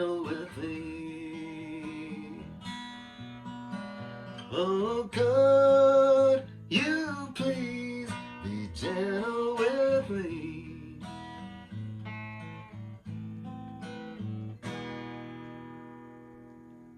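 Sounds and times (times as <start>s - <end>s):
acoustic guitar playing: 0.0s - 16.9s.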